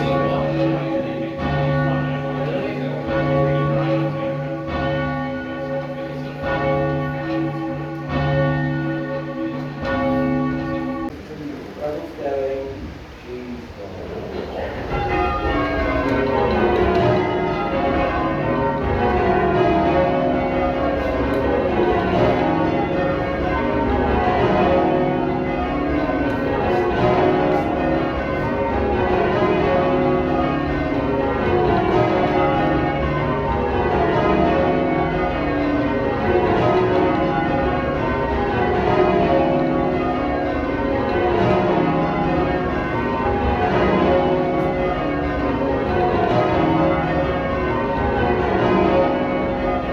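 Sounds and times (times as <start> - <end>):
church bells change ringing: 0.0 - 11.2, 14.6 - 49.9.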